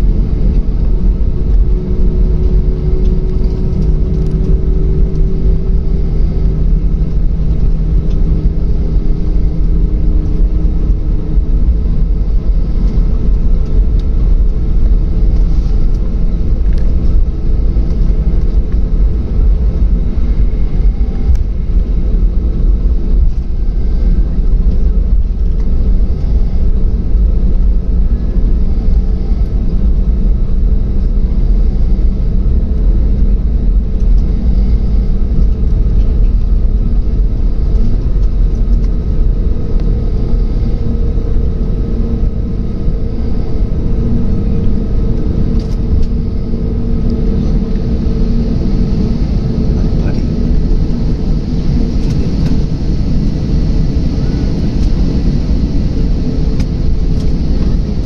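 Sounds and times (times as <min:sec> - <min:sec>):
faint steady hum: 0:00.0 - 0:58.0
jet engine cabin rumble: 0:00.0 - 0:58.0.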